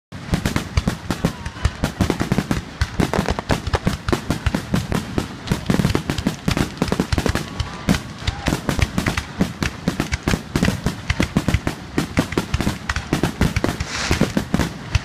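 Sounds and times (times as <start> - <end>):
fireworks shells bursting: 0.2 - 15.0.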